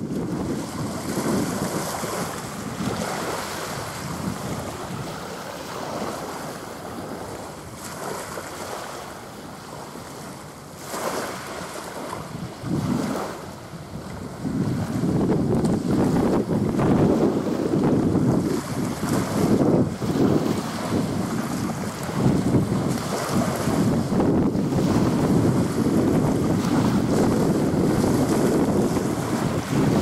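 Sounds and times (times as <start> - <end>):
small waves washing on shore: 0.0 - 30.0
wind buffeting microphone: 0.0 - 30.0.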